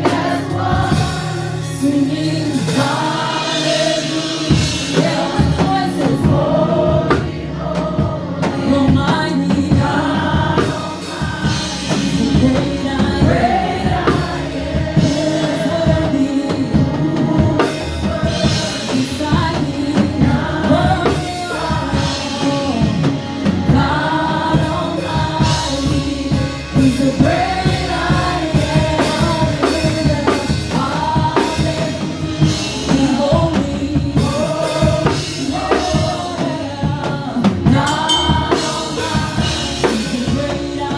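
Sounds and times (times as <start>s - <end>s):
band with drum kit: 0.0s - 40.9s
voices singing together: 0.0s - 40.9s.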